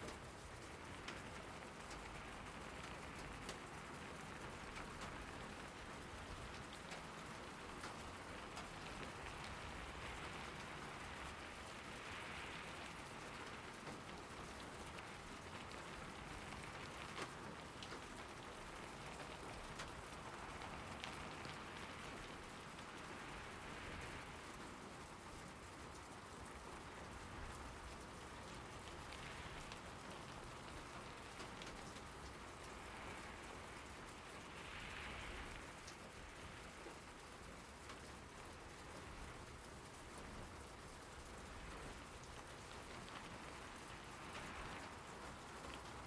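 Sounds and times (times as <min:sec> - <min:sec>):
raindrops ticking close by: 0:00.0 - 0:46.0
steady rain: 0:00.0 - 0:46.0.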